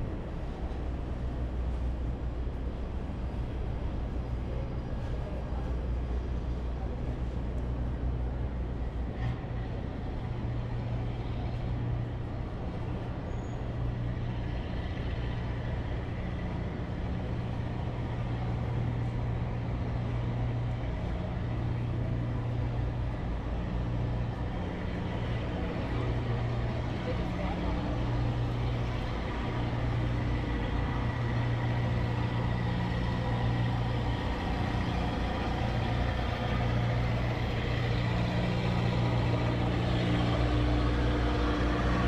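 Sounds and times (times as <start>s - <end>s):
city street traffic: 0.0s - 42.0s.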